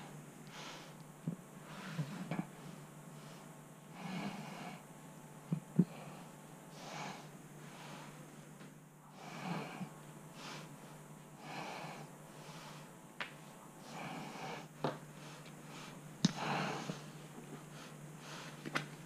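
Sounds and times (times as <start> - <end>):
soft breathing: 0.0 - 4.9, 5.5 - 18.9
steady low hum: 0.0 - 19.0.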